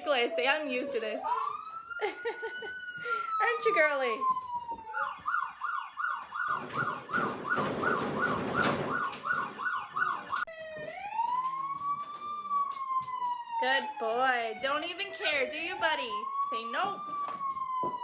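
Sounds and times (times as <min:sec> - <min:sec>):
siren wailing: 0:00.0 - 0:18.0
siren yelping: 0:00.0 - 0:18.0.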